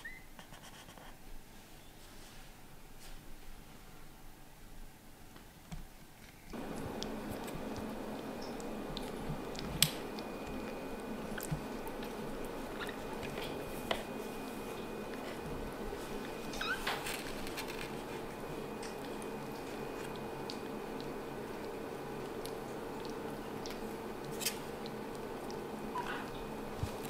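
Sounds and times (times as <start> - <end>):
room hum: 0.0 - 27.0.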